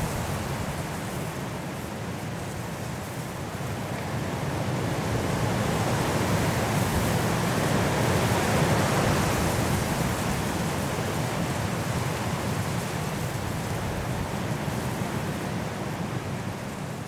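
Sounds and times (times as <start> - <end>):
strong wind through trees: 0.0 - 17.0.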